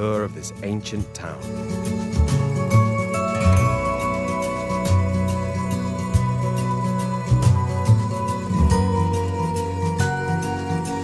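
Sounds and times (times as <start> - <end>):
sustained music notes: 0.0 - 11.0.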